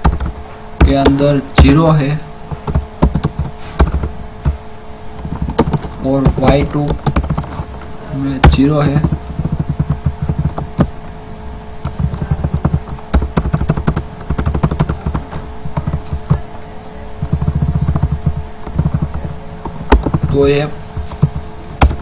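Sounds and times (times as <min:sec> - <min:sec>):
computer keyboard typing: 0:00.0 - 0:04.6, 0:05.2 - 0:11.2, 0:11.8 - 0:22.0
faint steady hum: 0:00.0 - 0:22.0.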